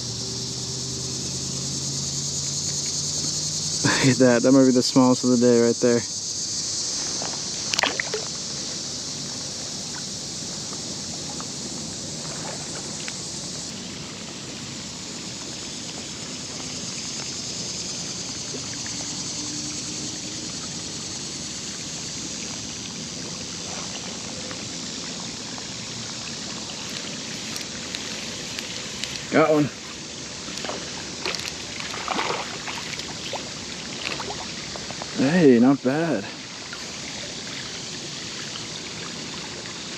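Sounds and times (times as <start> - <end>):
highway traffic rush: 0.0 - 7.7, 8.5 - 36.4
creek running water: 0.0 - 39.9
insect chirring: 0.0 - 39.9.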